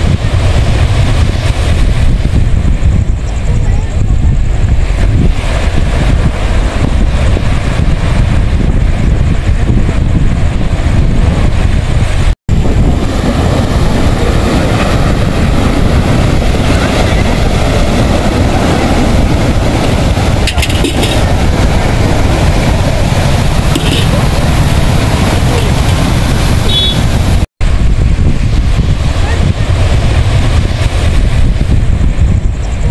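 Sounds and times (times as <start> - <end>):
surf breaking on rocky shore: 0.0 - 32.9
wind buffeting microphone: 0.0 - 32.9.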